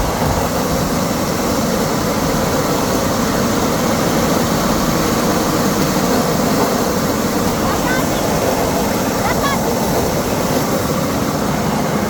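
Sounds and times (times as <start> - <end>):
loud engine drone: 0.0 - 12.0
rushing wind noise: 0.0 - 12.0.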